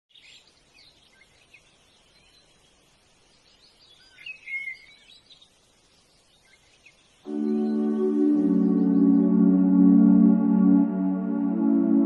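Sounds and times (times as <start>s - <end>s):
birds chirping: 0.1s - 10.4s
faint steady hiss: 0.1s - 11.6s.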